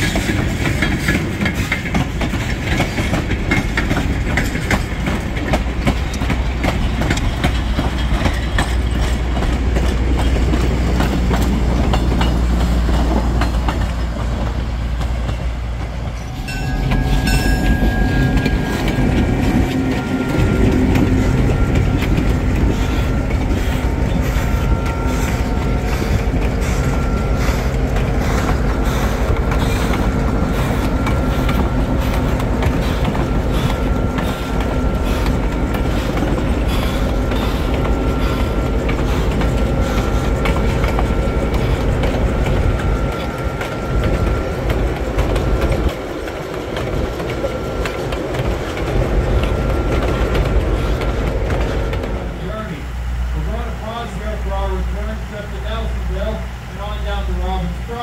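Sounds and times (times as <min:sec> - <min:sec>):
diesel locomotive engine running: 0:00.0 - 0:58.0
rapid ticking of rolling train: 0:00.0 - 0:58.0
train wheels rumbling on track: 0:00.0 - 0:58.0.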